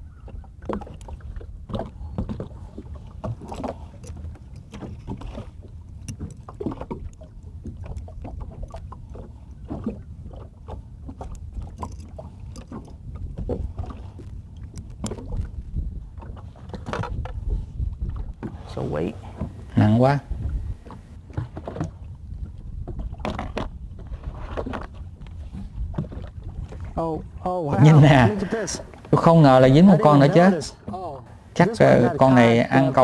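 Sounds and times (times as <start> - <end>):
wind and water against hull: 0.0 - 33.0.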